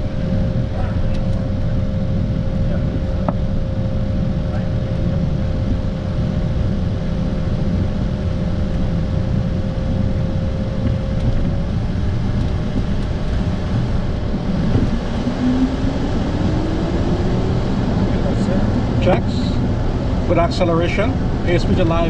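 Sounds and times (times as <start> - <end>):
jet engine whine rising: 0.0 - 22.0
jet engines rumbling: 0.0 - 22.0.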